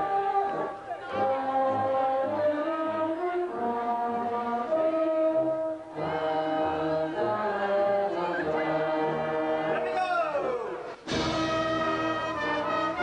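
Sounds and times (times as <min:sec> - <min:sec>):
brass band playing held chords: 0:00.0 - 0:13.0.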